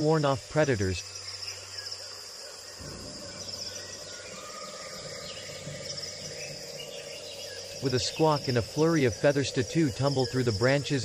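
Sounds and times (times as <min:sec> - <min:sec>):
faint bird calls: 0:00.0 - 0:11.0
insects chirring: 0:00.0 - 0:11.0.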